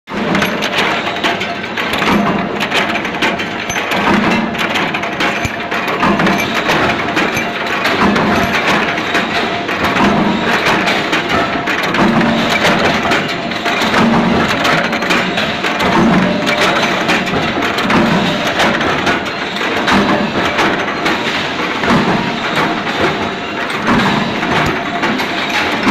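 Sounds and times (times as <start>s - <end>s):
machinery metallic clatter: 0.1s - 25.9s.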